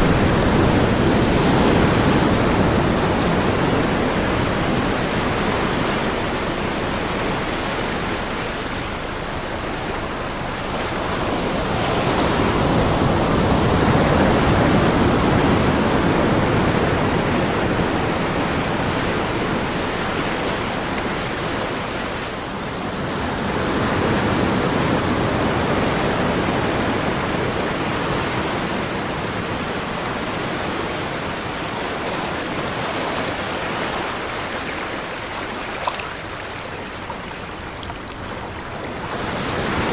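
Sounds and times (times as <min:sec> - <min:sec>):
ocean waves rushing: 0:00.0 - 0:39.9.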